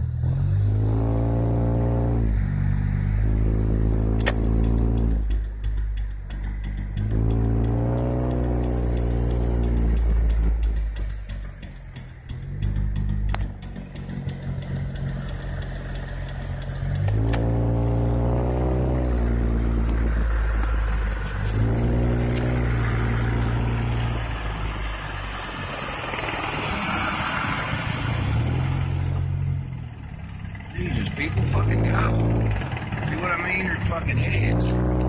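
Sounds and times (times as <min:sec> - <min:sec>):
car engine: 0:00.0 - 0:35.0
road noise inside car: 0:00.0 - 0:35.0.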